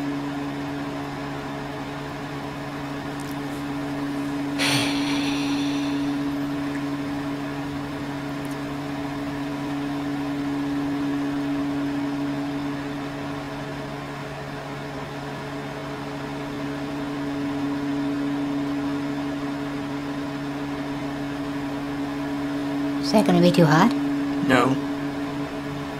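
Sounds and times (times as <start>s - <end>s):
fan whir: 0.0s - 25.9s
microwave oven humming: 0.0s - 25.9s.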